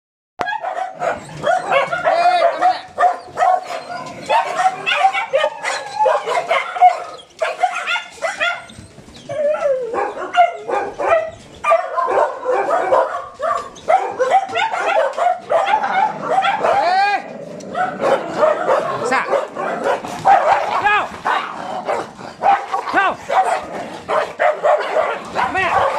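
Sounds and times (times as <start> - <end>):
dogs barking and yipping: 0.4 - 25.9.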